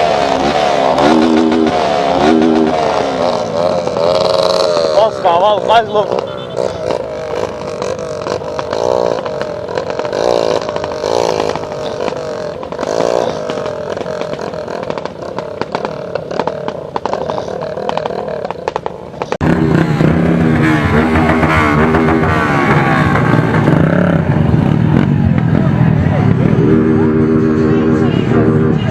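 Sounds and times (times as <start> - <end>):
loud steady engine close by: 0.0 - 28.9
motorcycles revving riding by: 0.0 - 28.9.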